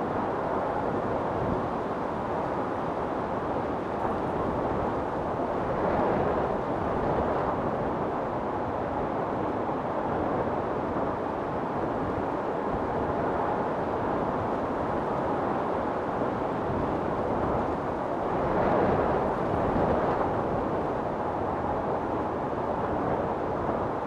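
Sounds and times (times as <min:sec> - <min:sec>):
strong wind storm: 0:00.0 - 0:24.0.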